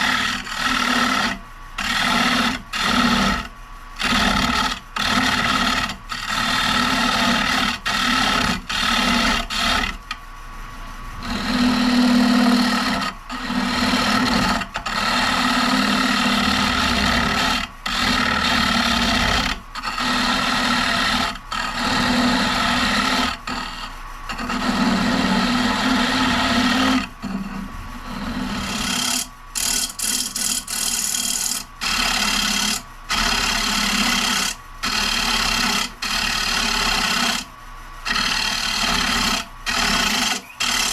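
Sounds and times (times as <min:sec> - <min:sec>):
lathe tool scraping wood: 0:00.0 - 0:10.2, 0:11.1 - 0:40.9.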